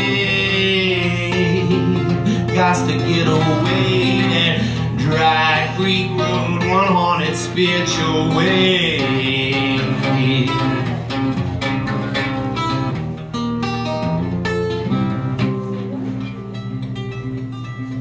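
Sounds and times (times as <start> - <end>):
solo guitar picked notes: 0.0 - 18.0.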